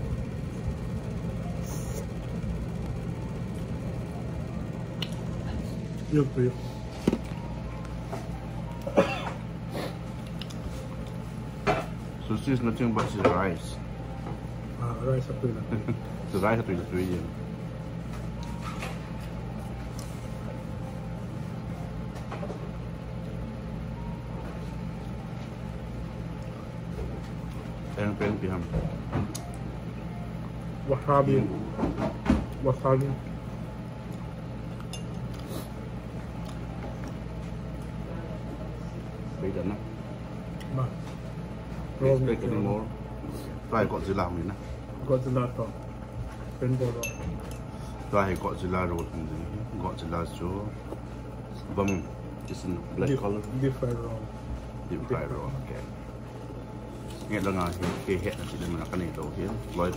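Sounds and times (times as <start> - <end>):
faint steady whine: 0.0 - 59.9
restaurant background rumble: 0.0 - 59.9
ventilation hum: 0.0 - 59.9.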